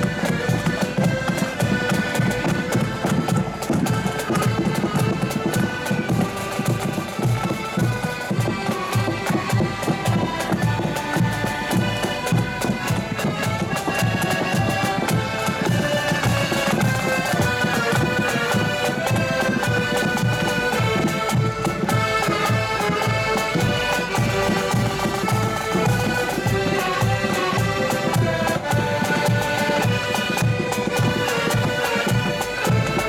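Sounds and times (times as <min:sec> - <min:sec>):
accordions playing: 0:00.0 - 0:33.0.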